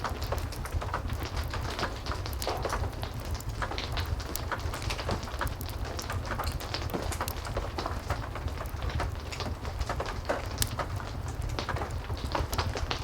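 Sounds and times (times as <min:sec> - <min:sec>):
heavy rain: 0:00.0 - 0:13.0
wood fire crackling: 0:00.0 - 0:13.0.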